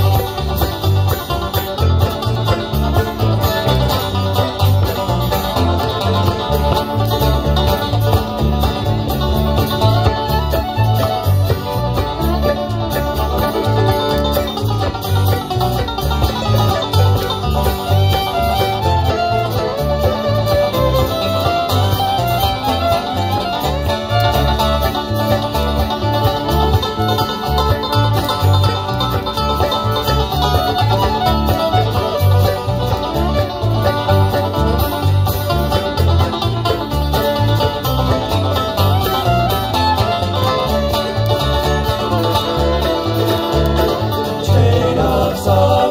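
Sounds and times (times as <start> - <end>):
bluegrass string band playing: 0.0 - 45.9.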